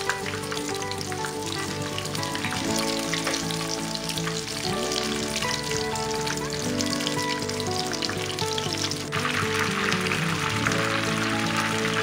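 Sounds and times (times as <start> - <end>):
background music: 0.0 - 12.0
deep-frying sizzle and pops: 0.0 - 12.0.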